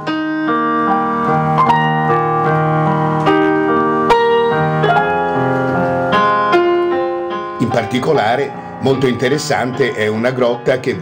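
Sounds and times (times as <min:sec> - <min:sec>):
electronic keyboard chords: 0:00.0 - 0:11.0.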